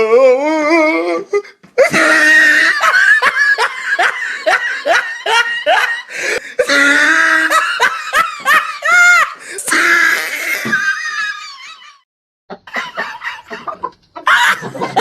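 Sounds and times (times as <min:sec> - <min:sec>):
person laughing: 0:01.8 - 0:15.0.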